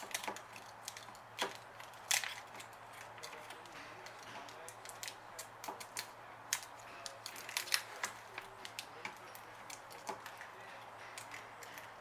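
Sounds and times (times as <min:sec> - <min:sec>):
light clicks of film on plastic: 0:00.0 - 0:12.0.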